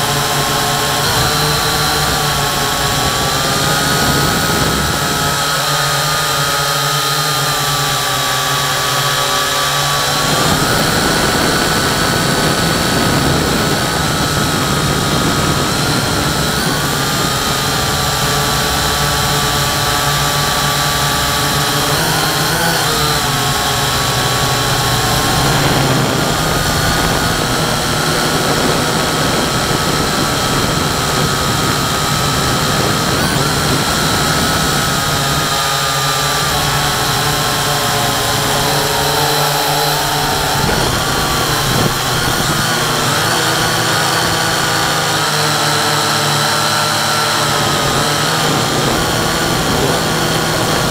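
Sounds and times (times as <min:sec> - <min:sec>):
drone motors whining: 0:00.0 - 0:50.9.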